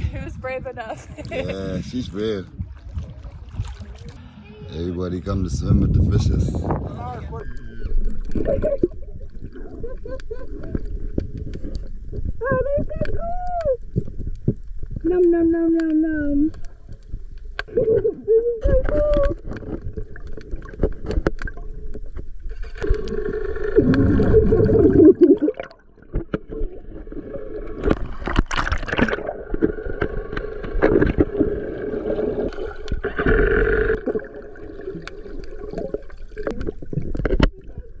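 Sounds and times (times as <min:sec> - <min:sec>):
water sloshing and gurgling: 0:00.0 - 0:04.3, 0:05.5 - 0:38.0.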